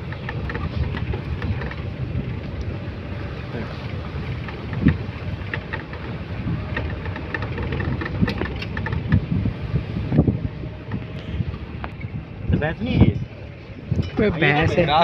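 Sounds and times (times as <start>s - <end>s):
jeep engine rumbling: 0.0s - 15.0s
vehicle rattling over bumps: 0.0s - 15.0s.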